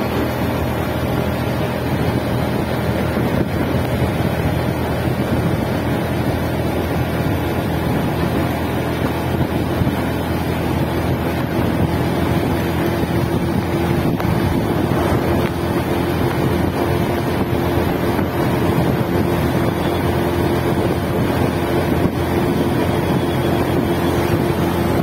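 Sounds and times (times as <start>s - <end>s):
motorcycle engine droning: 0.0s - 25.0s
wind rushing over microphone: 0.0s - 25.0s.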